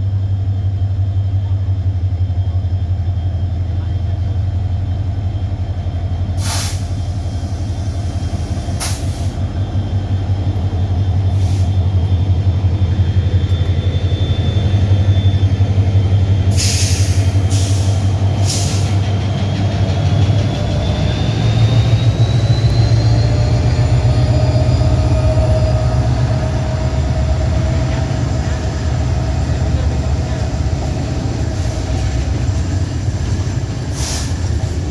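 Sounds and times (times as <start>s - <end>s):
train rumbling past: 0.0s - 34.9s.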